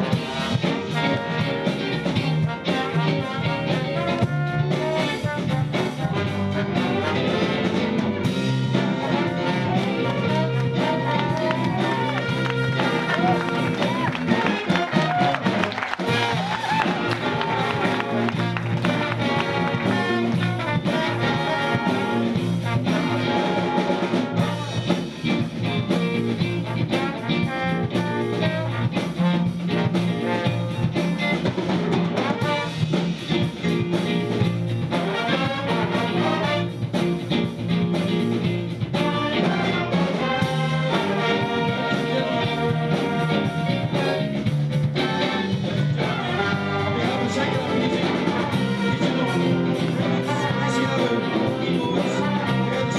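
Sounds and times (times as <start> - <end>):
big band playing jazz: 0.0 - 52.9.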